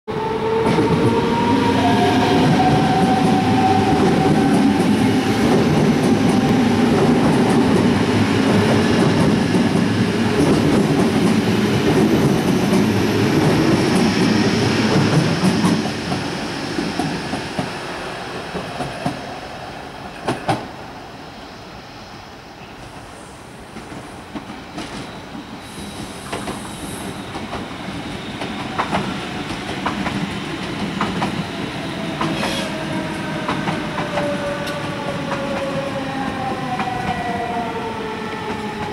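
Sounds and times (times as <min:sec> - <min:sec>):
electric train passing: 0:00.1 - 0:38.9
high train whine: 0:00.1 - 0:38.9.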